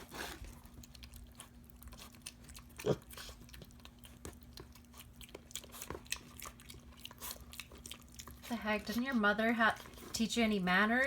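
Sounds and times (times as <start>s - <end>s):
pig chewing and crunching: 0.0s - 11.0s.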